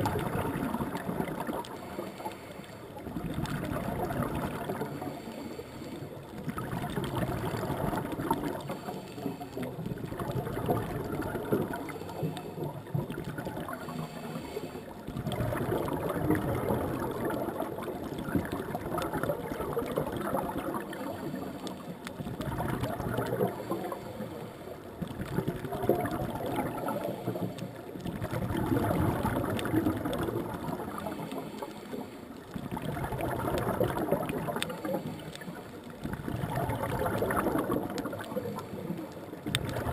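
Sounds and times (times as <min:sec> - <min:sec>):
scuba regulator bubbling exhales: 0:00.0 - 0:39.9.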